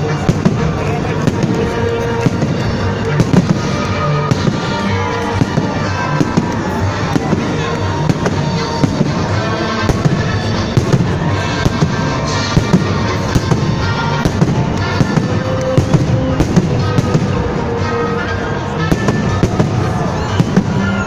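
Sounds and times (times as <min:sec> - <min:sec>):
fireworks bursts and crackles: 0:00.0 - 0:21.0
music playing: 0:00.0 - 0:21.0.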